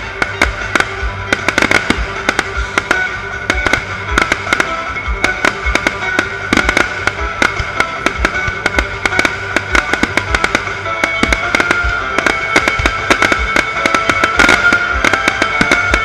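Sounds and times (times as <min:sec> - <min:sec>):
fireworks bangs: 0:00.0 - 0:16.0
music with low beat: 0:00.0 - 0:16.0.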